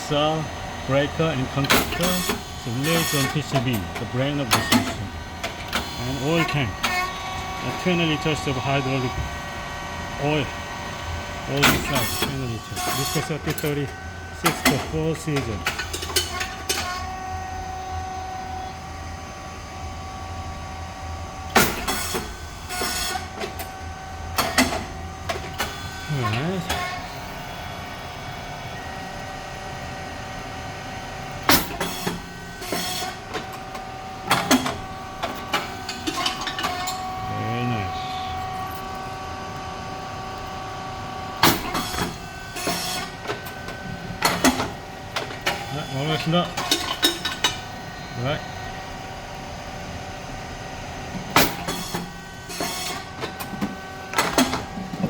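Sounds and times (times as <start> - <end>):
machine motor hum: 0.0 - 55.0.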